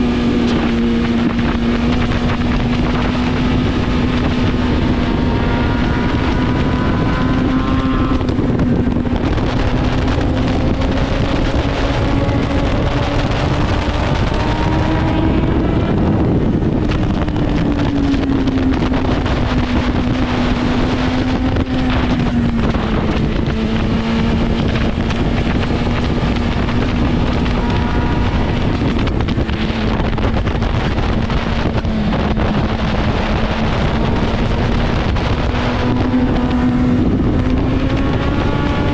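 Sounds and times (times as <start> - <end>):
motorbike engine cruising: 0.0 - 38.9
wind rush on microphone: 0.0 - 38.9.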